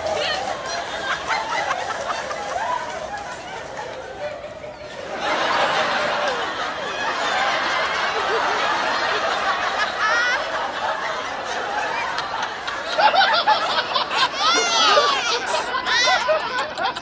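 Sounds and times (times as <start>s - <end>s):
people laughing: 0.0s - 17.0s.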